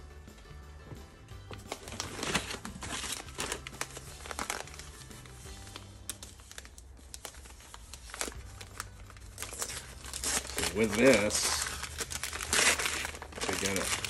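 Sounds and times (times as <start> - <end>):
faint background music: 0.0 - 14.0
paper tearing and crumpling: 1.6 - 14.0.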